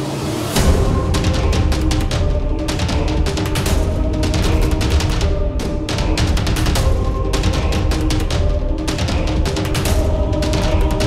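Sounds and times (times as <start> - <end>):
music with heavy bass: 0.0 - 11.0
fast driving drum beat: 0.6 - 11.0.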